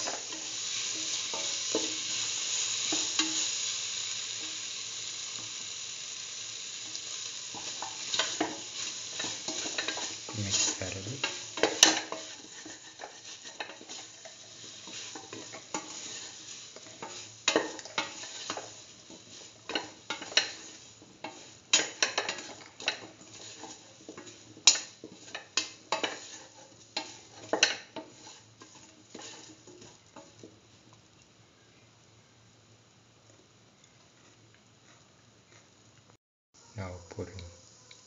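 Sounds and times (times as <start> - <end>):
faint sizzle: 0.0 - 38.0.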